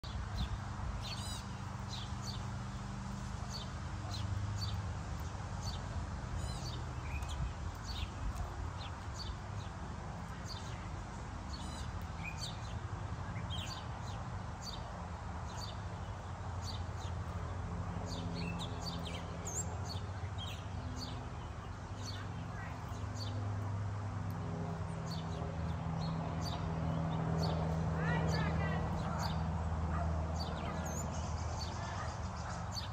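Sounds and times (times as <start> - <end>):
songbirds chirping: 0.0 - 32.9
murmur of distant voices: 0.2 - 32.9.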